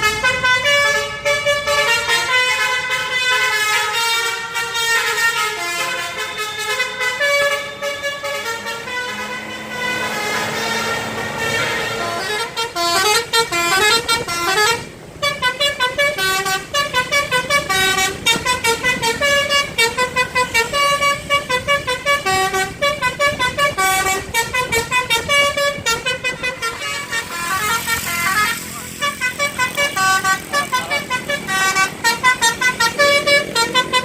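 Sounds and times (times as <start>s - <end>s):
bus horn playing a tune: 0.0s - 34.0s.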